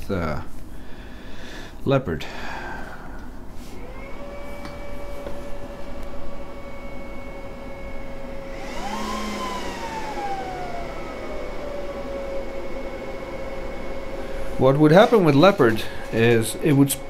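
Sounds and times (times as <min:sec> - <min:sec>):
cooling fans whining: 0:00.0 - 0:17.0.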